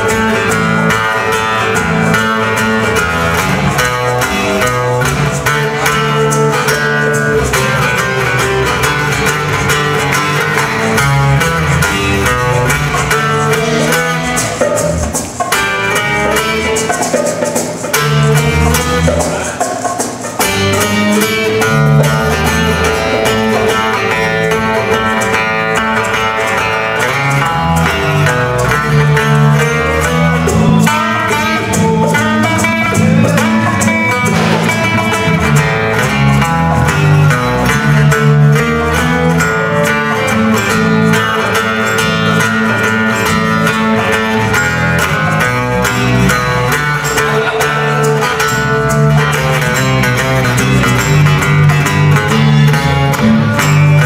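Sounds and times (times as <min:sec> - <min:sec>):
guitar: 0:00.0 - 0:54.0
repeating bass line: 0:00.0 - 0:54.0.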